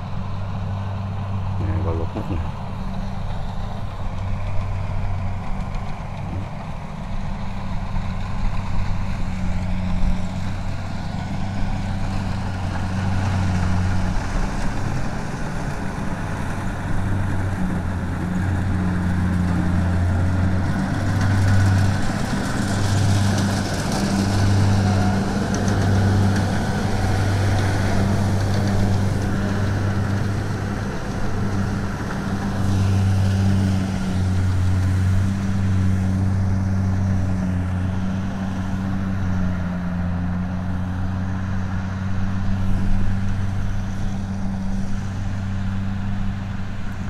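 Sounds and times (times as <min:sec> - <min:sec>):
combine harvester engine running: 0:00.0 - 0:47.0
cutting and threshing noise: 0:00.0 - 0:47.0.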